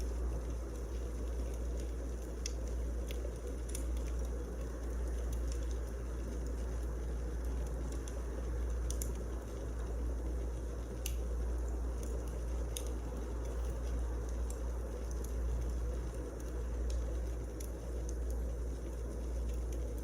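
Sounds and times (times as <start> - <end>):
fire crackling and popping: 0.0 - 20.0
wood fire burning: 0.0 - 20.0.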